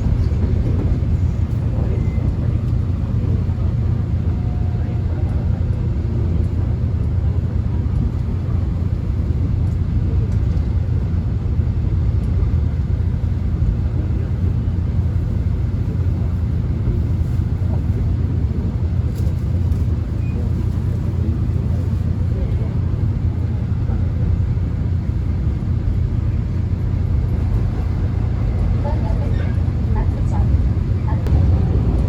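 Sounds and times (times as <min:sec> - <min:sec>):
subway train rumble: 0:00.0 - 0:32.0.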